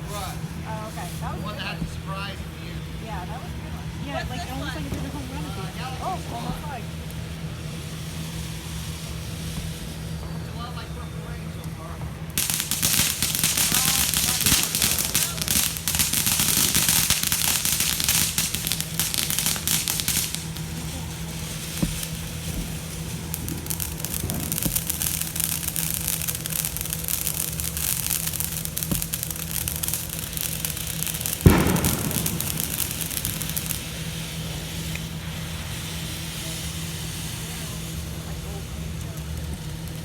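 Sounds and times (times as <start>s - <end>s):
fireworks bang: 0.0s - 10.4s, 12.0s - 38.3s
fireworks crackling: 0.0s - 40.0s.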